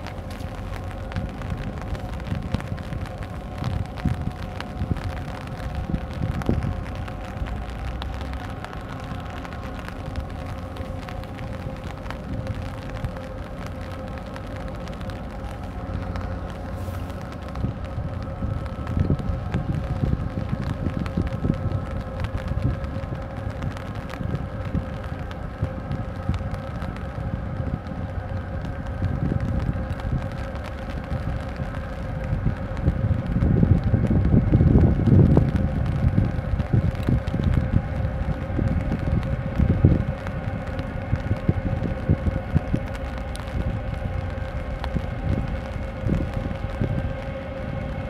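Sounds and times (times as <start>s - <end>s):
ship machinery hum: 0.0s - 48.0s
wind buffeting microphone: 0.0s - 48.0s.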